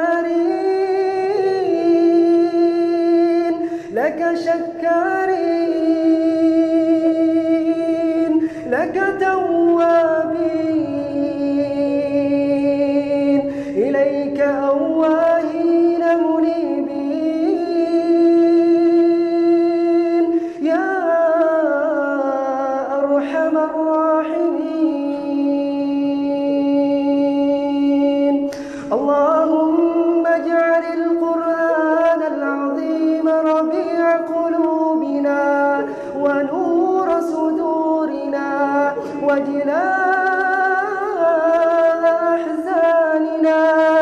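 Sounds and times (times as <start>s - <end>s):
man chanting: 0.0s - 44.0s.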